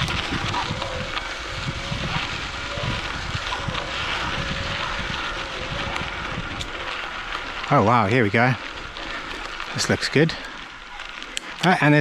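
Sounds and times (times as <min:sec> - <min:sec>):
bicycle tyres rumbling on dirt: 0:00.0 - 0:12.0
wind buffeting microphone: 0:00.0 - 0:12.0.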